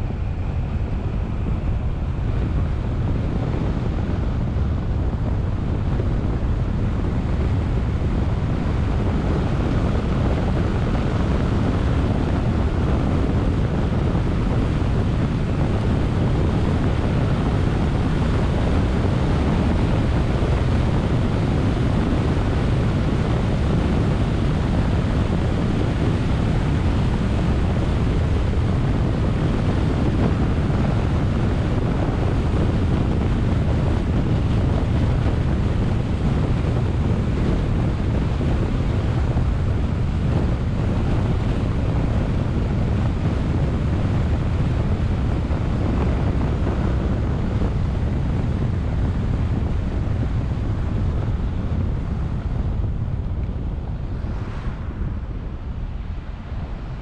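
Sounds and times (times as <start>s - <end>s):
road noise: 0.0s - 57.0s
wind rushing on microphone: 0.0s - 57.0s.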